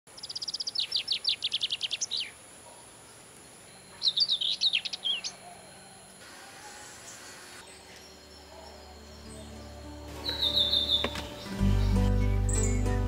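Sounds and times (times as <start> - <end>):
songbird singing: 0.1 - 13.0.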